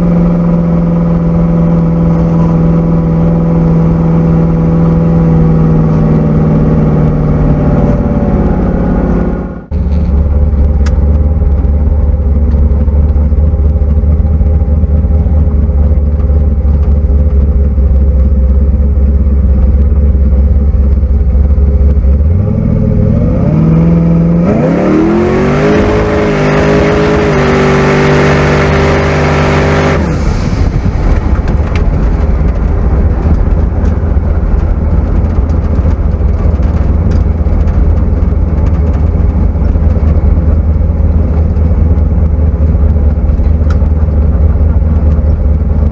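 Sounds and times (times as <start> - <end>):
car engine accelerating hard: 0.0 - 45.9.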